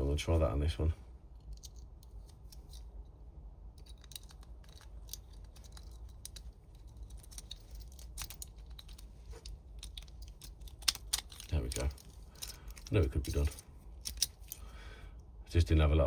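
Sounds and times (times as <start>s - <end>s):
lock pick clicking and scratching: 1.4s - 14.7s.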